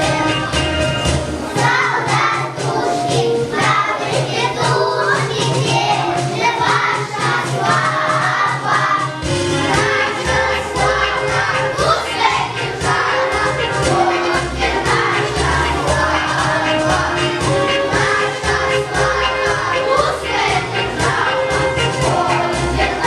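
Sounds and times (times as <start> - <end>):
children singing in chorus: 0.0 - 23.0
recorded musical accompaniment: 0.0 - 23.0.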